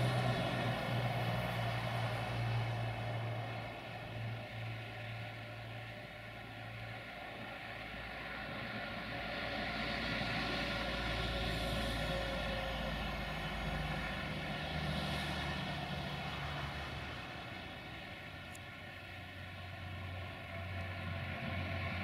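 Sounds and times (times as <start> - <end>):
diesel train engines droning: 0.0 - 22.0.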